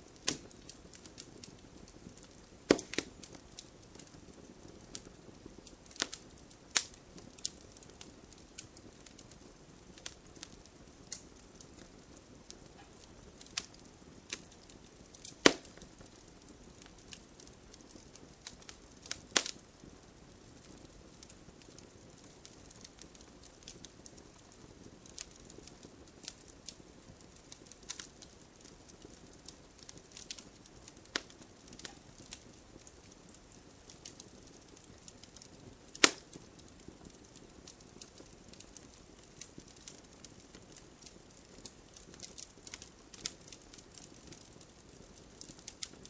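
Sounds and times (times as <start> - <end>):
gentle rain hiss: 0.0 - 46.0
wood fire crackling: 0.0 - 46.0
sharp fire pops: 0.1 - 19.8, 26.2 - 46.0.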